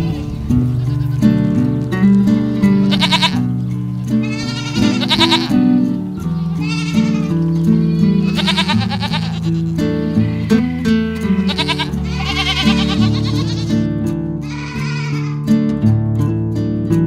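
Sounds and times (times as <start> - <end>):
background music: 0.0 - 14.5
livestock bleating: 0.7 - 15.5.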